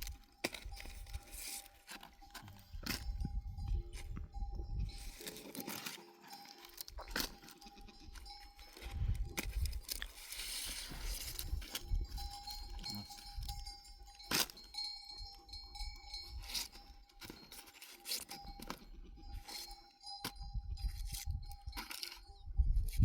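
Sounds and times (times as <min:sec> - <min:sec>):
livestock bells clinking: 0:00.0 - 0:22.8.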